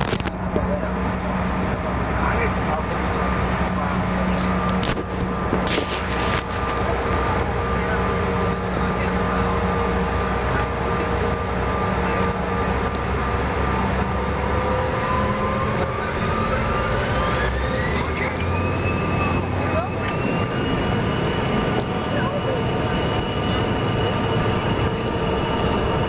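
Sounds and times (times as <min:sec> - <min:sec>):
jet engine noise in cabin: 0:00.0 - 0:26.0
jet engine whine rising: 0:00.0 - 0:26.0.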